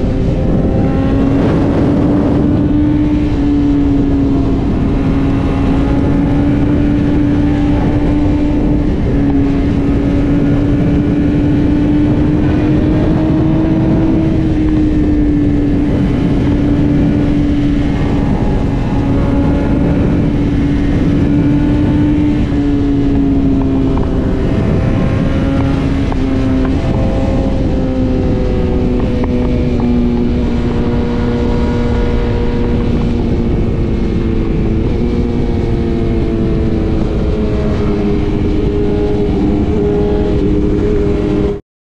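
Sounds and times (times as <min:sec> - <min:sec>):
motorcycle engine at high revs: 0:00.0 - 0:41.6
wind rush on microphone: 0:00.0 - 0:41.6.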